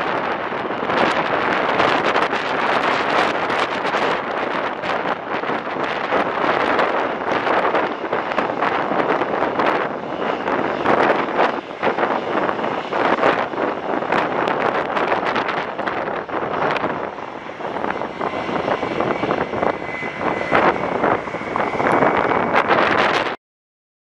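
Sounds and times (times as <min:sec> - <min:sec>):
jet engines at taxi power: 0:00.0 - 0:23.4
wind buffeting microphone: 0:00.0 - 0:23.4.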